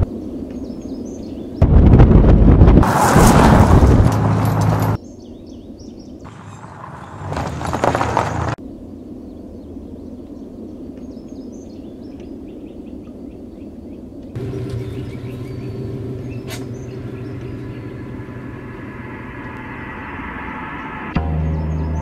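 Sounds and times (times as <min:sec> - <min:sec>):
steady outdoor background: 0:00.0 - 0:22.0
birds chirping: 0:00.1 - 0:01.7, 0:05.0 - 0:22.0.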